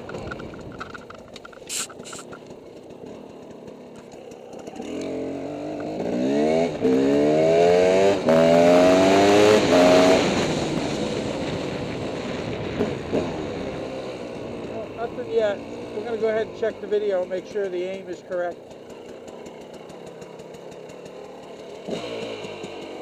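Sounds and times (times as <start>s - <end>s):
dirt bike engine accelerating: 0.0s - 23.0s.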